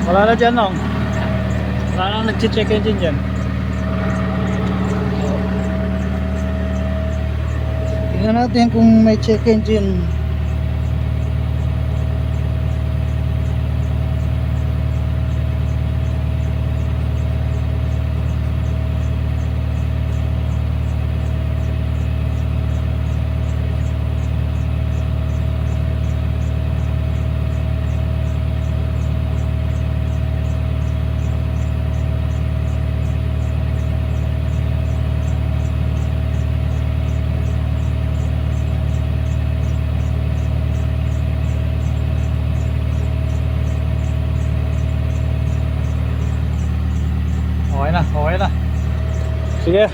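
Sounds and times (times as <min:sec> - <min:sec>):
diesel engine running steadily: 0:00.0 - 0:49.9
faint high ticking: 0:00.0 - 0:49.9.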